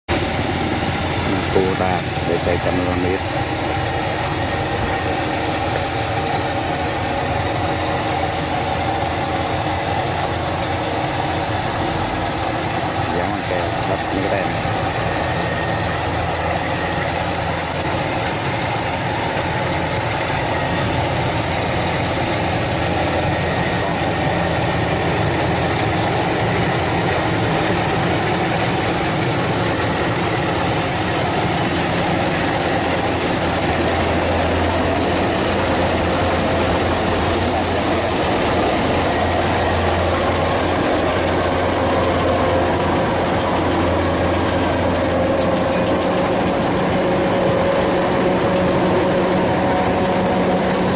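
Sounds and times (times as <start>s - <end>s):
combine harvester running: 0.0s - 50.9s.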